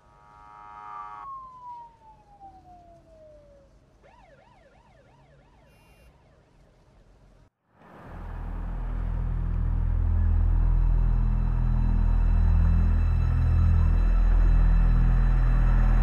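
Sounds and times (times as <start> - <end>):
police siren wailing: 0.2 - 6.4, 8.9 - 16.0.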